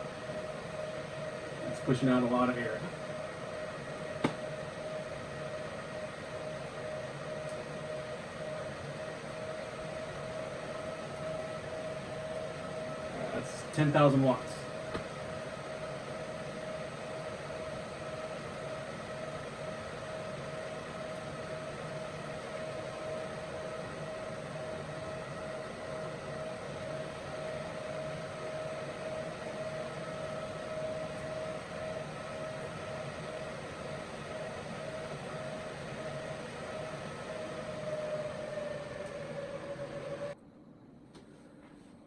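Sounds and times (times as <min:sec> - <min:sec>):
cooling fans running: 0:00.0 - 0:42.0
steady whine: 0:00.0 - 0:42.0.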